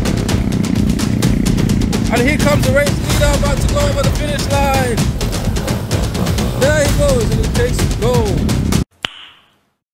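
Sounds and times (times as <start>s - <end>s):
music with drums: 0.0s - 8.8s.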